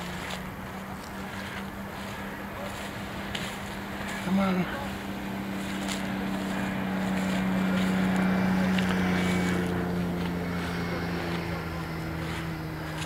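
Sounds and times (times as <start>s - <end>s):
engine drone: 0.0s - 13.0s.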